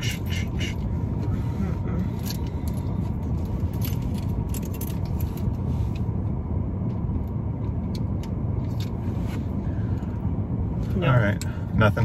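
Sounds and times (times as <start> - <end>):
car idling inside cabin: 0.0 - 12.0.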